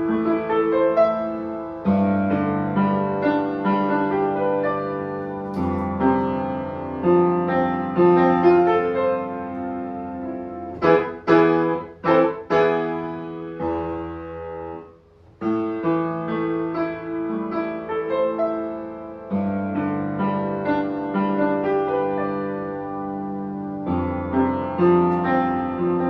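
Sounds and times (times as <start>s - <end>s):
piano playing chords: 0.0s - 26.0s.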